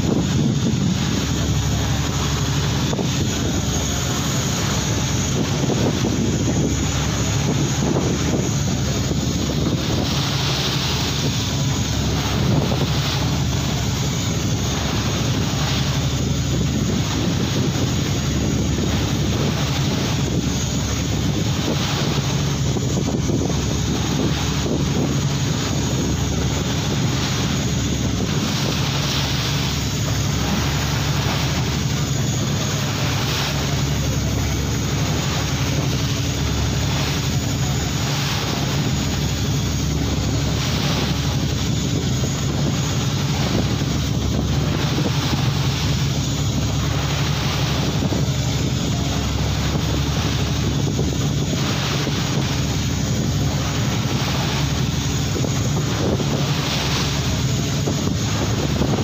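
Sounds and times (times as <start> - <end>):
boat engine running: 0.0 - 59.0
constant rushing hiss: 0.0 - 59.0.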